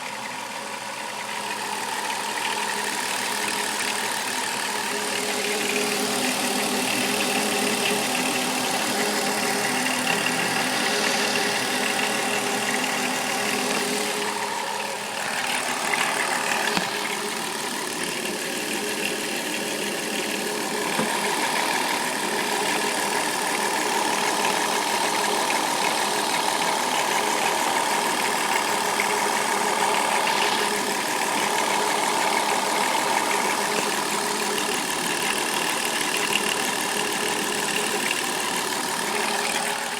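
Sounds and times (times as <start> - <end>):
car engine idling with rattle: 0.0 - 39.9.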